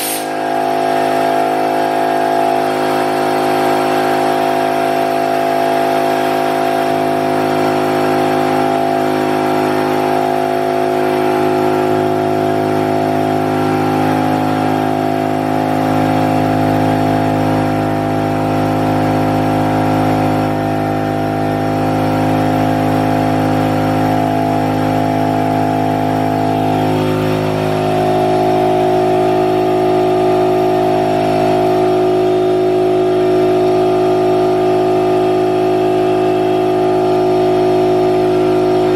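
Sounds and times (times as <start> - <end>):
machining center mechanical hum: 0.0 - 38.9.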